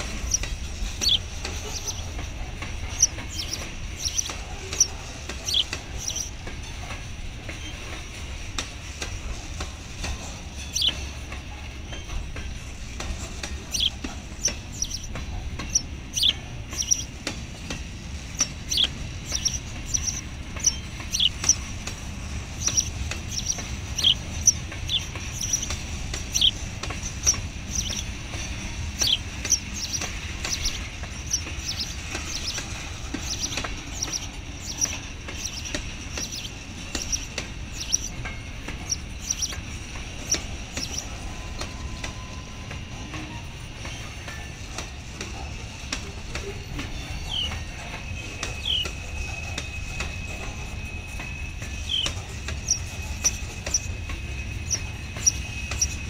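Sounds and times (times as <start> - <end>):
freight train rumbling past: 0.0 - 56.0
steel wheels squealing on rail: 0.0 - 56.0
train wheels clicking: 0.0 - 56.0.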